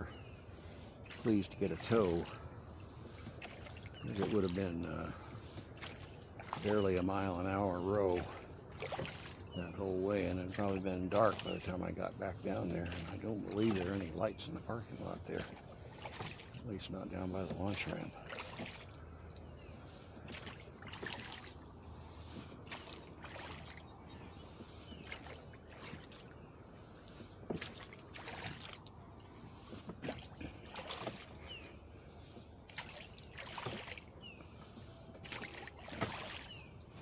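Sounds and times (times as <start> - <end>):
low water wash: 0.0 - 37.0
oar splashes and drips: 0.0 - 37.0.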